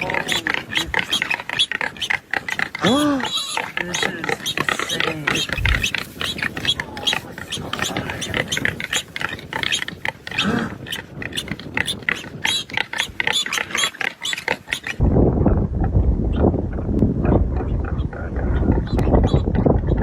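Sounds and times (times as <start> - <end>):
wild boar grunting and squealing: 0.0 - 15.0, 17.2 - 20.0
wind rumbling on microphone: 0.0 - 20.0.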